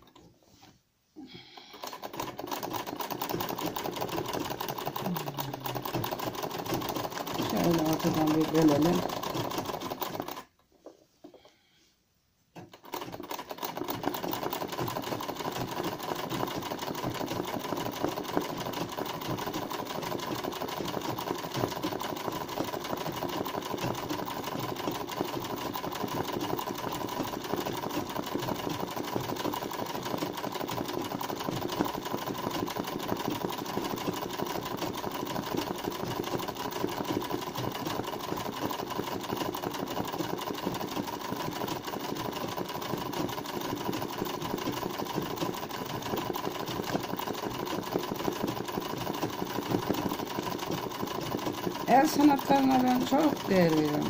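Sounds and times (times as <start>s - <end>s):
sewing machine stitching: 1.3s - 11.5s, 12.5s - 54.0s.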